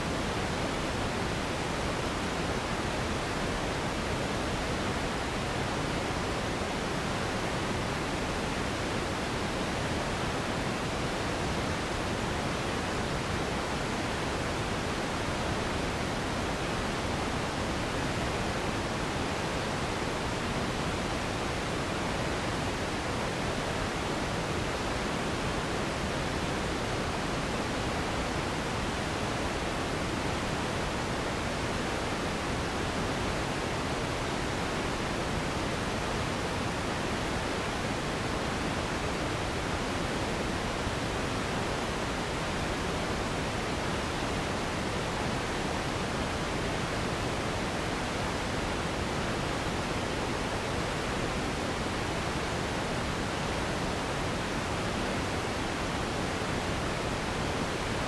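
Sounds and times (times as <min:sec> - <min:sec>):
steady generated noise hiss: 0:00.0 - 0:58.0.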